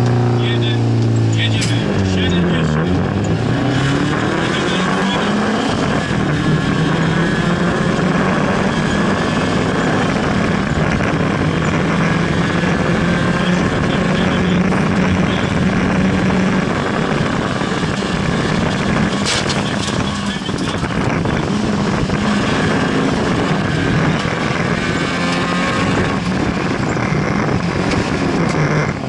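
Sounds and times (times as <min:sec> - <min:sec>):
car engine at high revs: 0:00.0 - 0:29.0.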